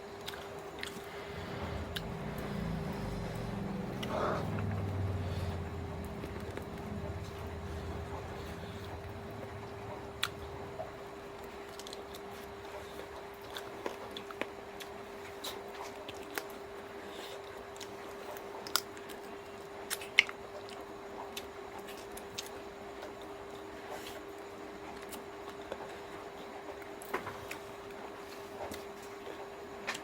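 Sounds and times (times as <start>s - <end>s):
chewing and crunching: 0.0s - 30.0s
faint steady hum: 0.0s - 30.0s.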